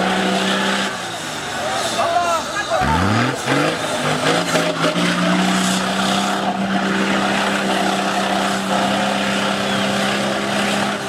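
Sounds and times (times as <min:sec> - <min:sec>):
engine at high revs: 0:00.0 - 0:02.0, 0:02.6 - 0:11.0.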